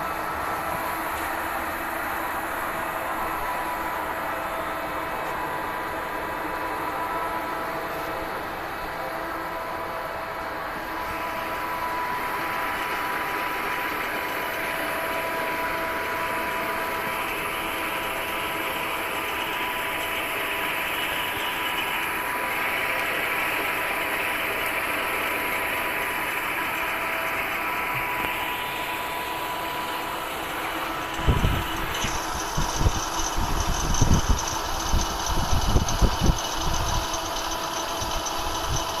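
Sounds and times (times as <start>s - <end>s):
lathe humming: 0.0s - 39.0s.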